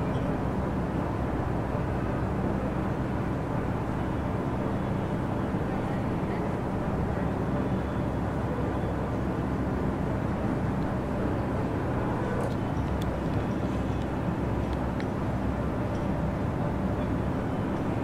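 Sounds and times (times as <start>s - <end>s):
city background rumble: 0.0s - 18.0s.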